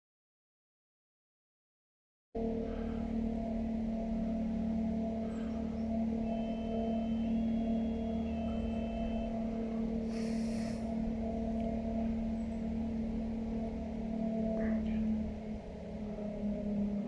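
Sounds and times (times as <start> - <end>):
cable car machinery humming: 2.4 - 17.0.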